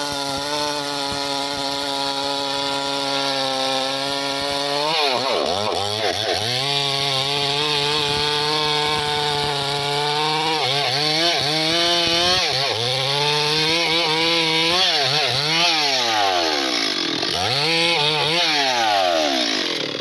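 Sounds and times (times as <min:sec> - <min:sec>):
chainsaw cutting through log: 0:00.0 - 0:20.0.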